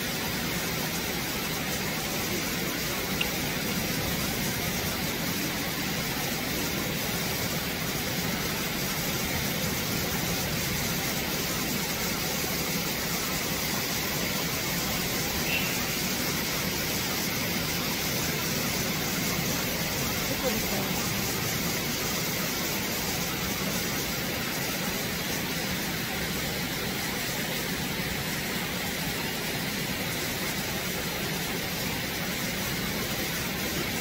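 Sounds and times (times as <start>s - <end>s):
stream flowing over rocks: 0.0s - 34.0s.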